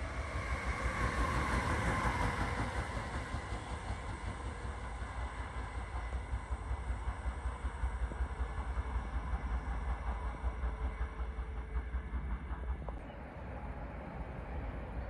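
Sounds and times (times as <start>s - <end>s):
distant train whine: 0.0s - 15.0s
train rumble: 0.0s - 15.0s.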